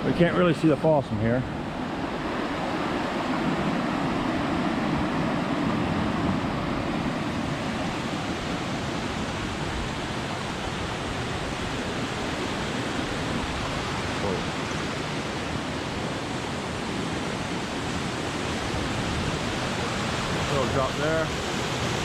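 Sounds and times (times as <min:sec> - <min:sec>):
waterfall and creek rushing: 0:00.0 - 0:22.0.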